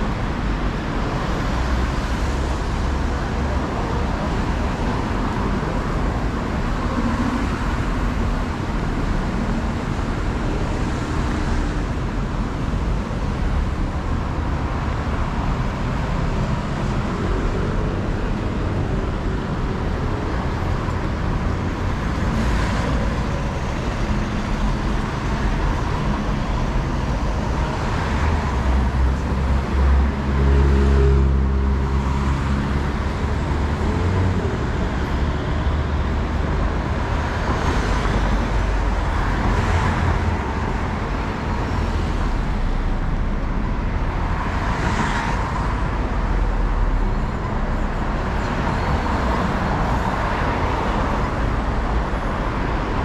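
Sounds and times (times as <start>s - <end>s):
cars passing: 0.0s - 53.0s
heavy vehicle engine: 0.0s - 53.0s.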